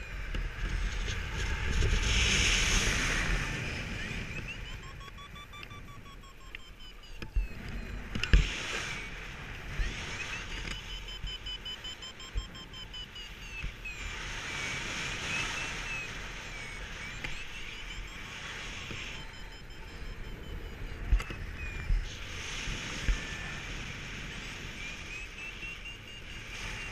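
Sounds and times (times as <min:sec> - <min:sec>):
high electronic sliding tone: 0:00.0 - 0:26.9.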